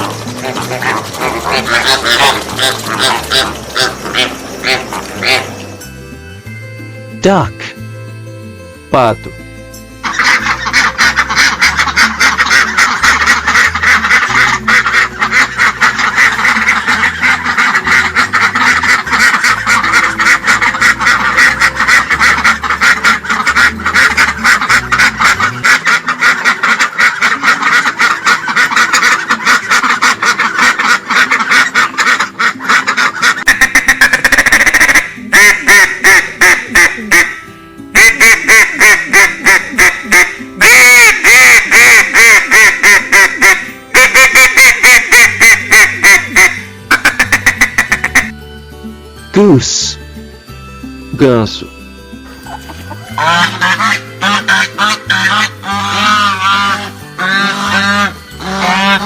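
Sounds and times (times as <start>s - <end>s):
ducks quacking: 0.0s - 5.8s, 10.0s - 48.3s, 52.3s - 59.0s.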